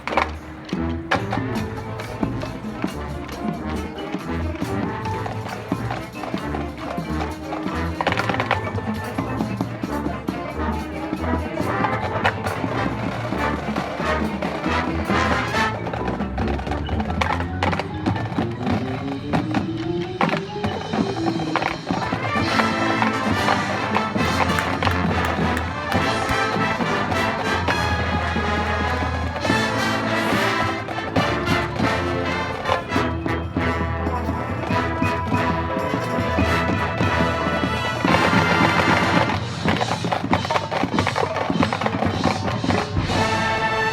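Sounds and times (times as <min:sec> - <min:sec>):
marching band playing: 0:00.0 - 0:43.9.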